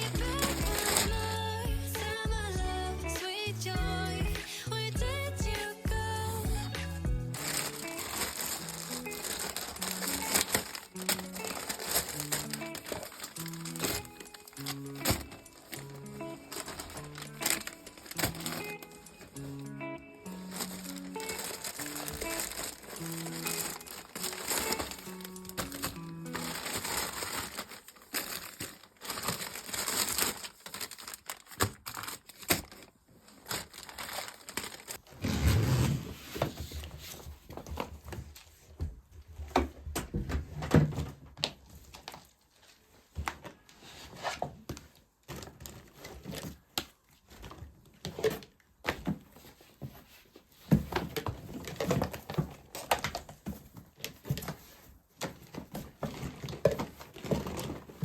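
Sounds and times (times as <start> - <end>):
rustling and crinkling: 0.0 - 2.1, 6.2 - 58.0.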